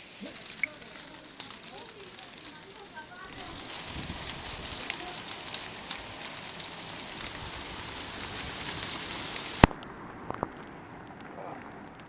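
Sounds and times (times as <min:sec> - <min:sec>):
hailstones ticking on hard surfaces: 0:00.0 - 0:12.0
rain and hail hissing: 0:00.0 - 0:12.0.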